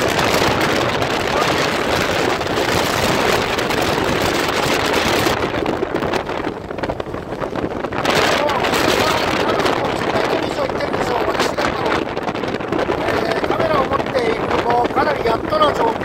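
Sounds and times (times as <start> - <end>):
strong wind buffeting microphone: 0.0 - 16.0
waves surging onto beach: 0.0 - 16.0.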